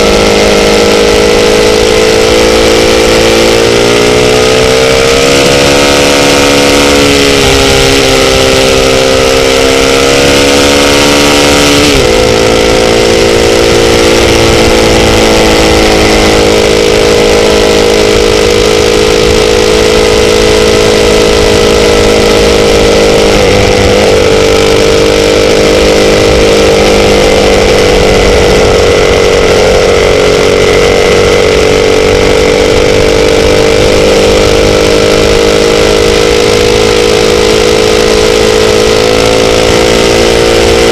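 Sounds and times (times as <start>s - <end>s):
motorcycle engine running: 0.0s - 40.9s
rush of noise: 0.0s - 40.9s.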